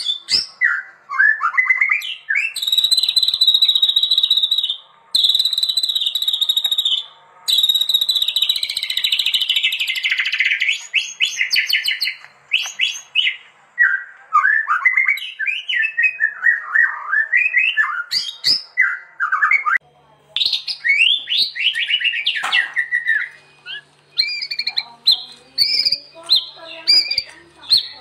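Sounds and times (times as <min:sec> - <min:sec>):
bird singing whistles and trills: 0:00.0 - 0:19.8, 0:20.4 - 0:28.0.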